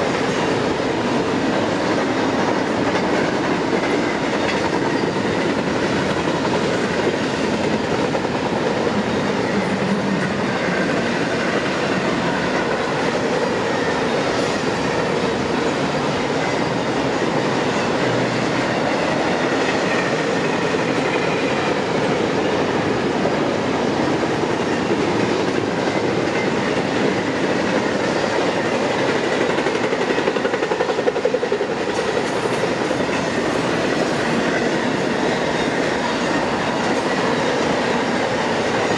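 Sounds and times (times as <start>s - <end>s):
train wheels running on rails: 0.0s - 38.9s.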